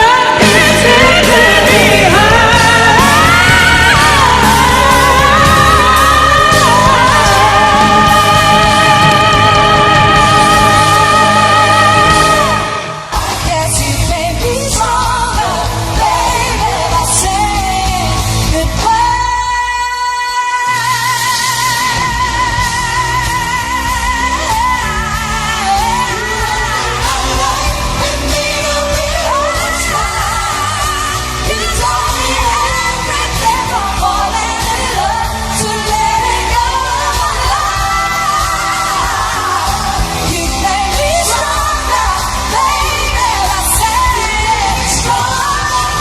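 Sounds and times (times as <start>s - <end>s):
live pop band playing: 0.0s - 46.0s
woman singing: 0.0s - 46.0s.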